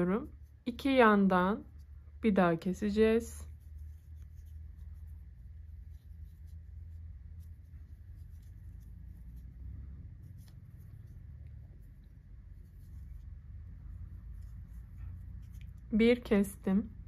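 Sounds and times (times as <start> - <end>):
crochet hook scratching yarn: 0.0 - 17.0
steady low hum: 0.0 - 17.0.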